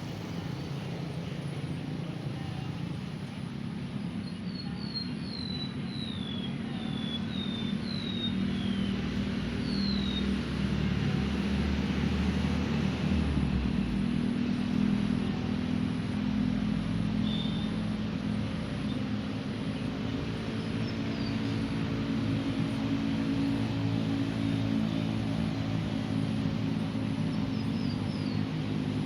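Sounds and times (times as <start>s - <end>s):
road traffic rumbling: 0.0s - 29.0s.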